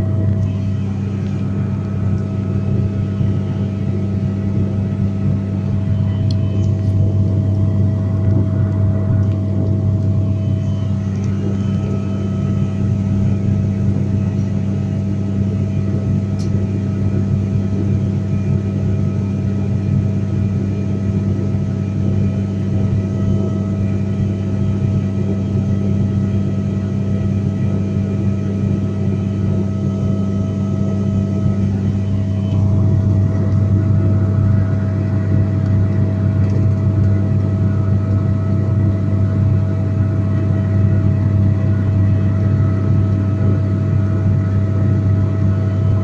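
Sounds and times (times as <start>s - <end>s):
airliner cabin engine hum: 0.0s - 46.0s
steady engine whine: 0.0s - 46.0s.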